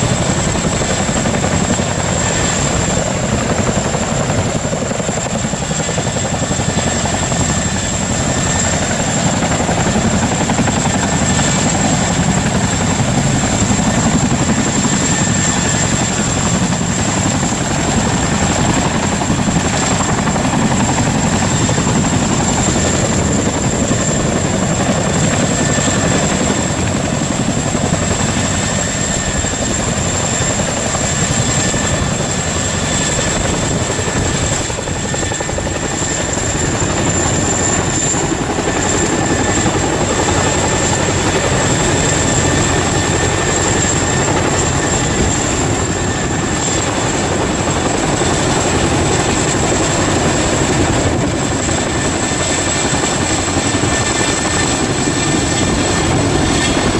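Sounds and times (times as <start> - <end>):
helicopter rotor noise: 0.0 - 56.9
high-pitched turbine whine: 0.0 - 56.9.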